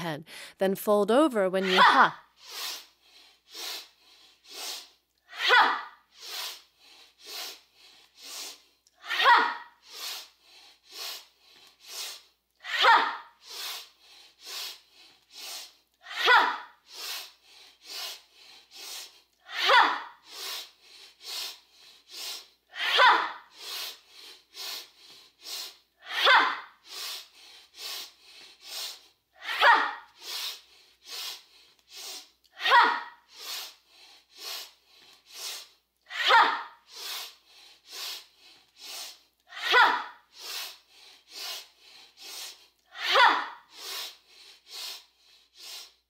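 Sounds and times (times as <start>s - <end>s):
woman sniffing through nose: 2.2s - 46.0s.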